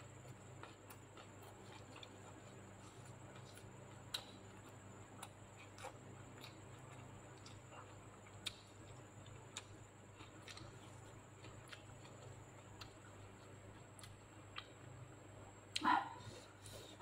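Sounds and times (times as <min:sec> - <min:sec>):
low steady hum: 0:00.0 - 0:17.0
mouth chewing food: 0:00.0 - 0:17.0.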